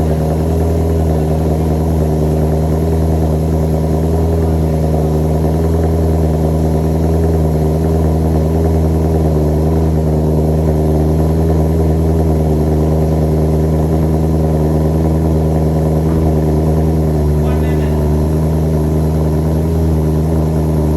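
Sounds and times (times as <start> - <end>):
car engine drone: 0.0 - 20.9.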